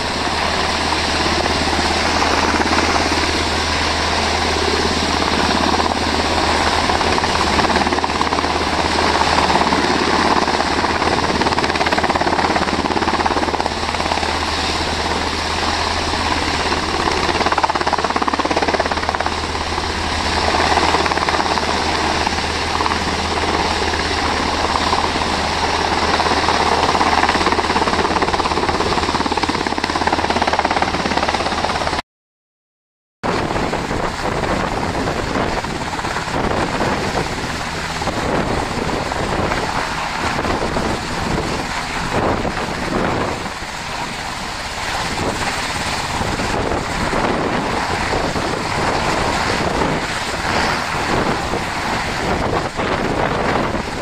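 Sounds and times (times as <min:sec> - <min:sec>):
helicopter rotor and engine: 0:00.0 - 0:32.0, 0:33.2 - 0:54.0.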